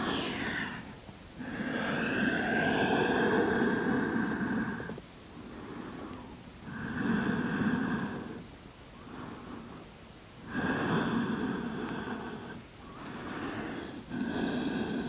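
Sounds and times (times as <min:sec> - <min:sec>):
woman breathing deeply: 0:00.0 - 0:15.0.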